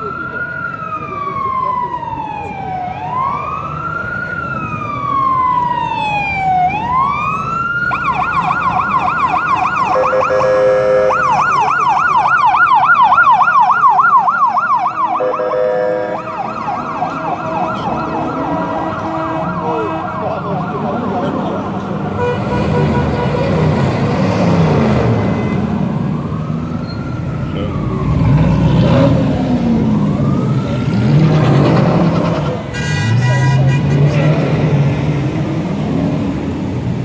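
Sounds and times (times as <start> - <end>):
emergency siren wailing and yelping: 0.0 - 22.4, 23.3 - 32.7.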